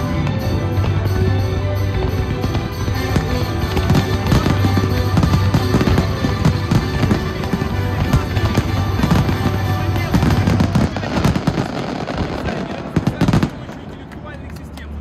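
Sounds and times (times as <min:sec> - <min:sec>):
loud music: 0:00.0 - 0:13.4
fireworks crackling and banging: 0:00.0 - 0:15.0.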